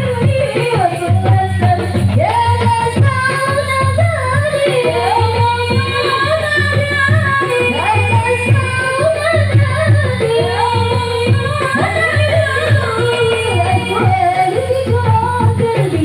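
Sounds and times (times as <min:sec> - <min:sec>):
frame drums beating: 0:00.0 - 0:16.0.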